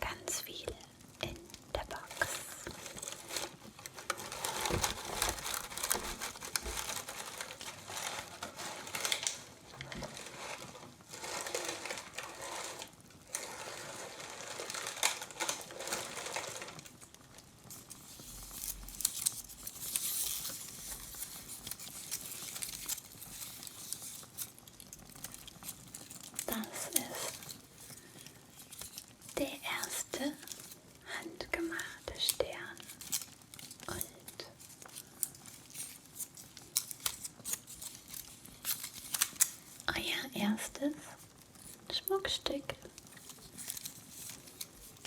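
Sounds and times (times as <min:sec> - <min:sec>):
packaging crinkling and rustling: 0:00.1 - 0:45.0.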